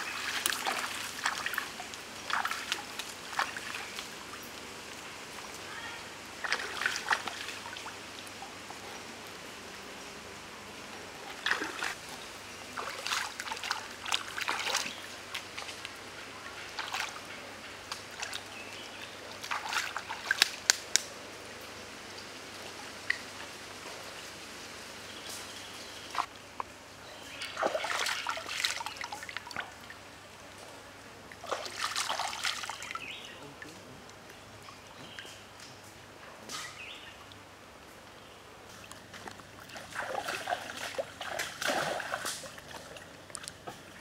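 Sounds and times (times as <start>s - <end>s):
water splashing and dribbling: 0.0s - 9.4s, 10.9s - 21.0s, 21.6s - 24.6s, 27.3s - 30.6s, 31.2s - 35.5s, 38.6s - 44.0s
stream flowing: 0.0s - 26.6s, 27.2s - 36.2s, 36.8s - 44.0s.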